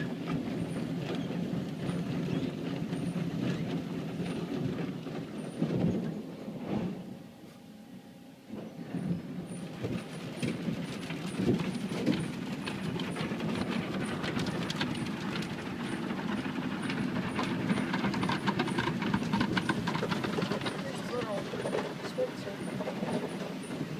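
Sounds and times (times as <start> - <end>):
steady machine hum: 0.0 - 23.9.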